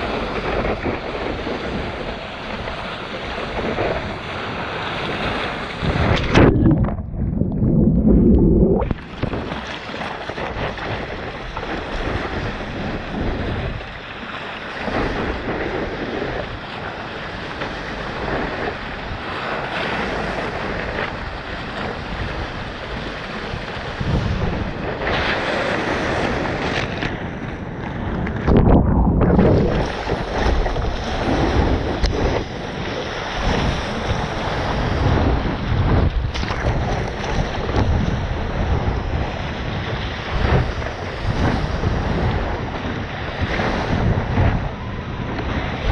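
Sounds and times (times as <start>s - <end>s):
rushing sea water: 0.0s - 45.9s
wind buffeting the microphone: 0.0s - 45.9s.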